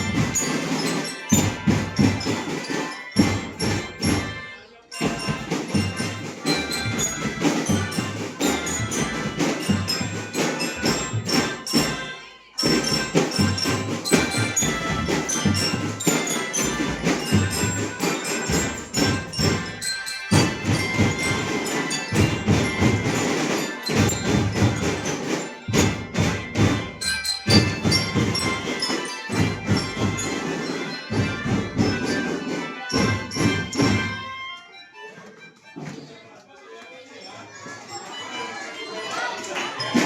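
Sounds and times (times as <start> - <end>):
bell-like melody: 0.0 - 35.8, 37.2 - 40.0.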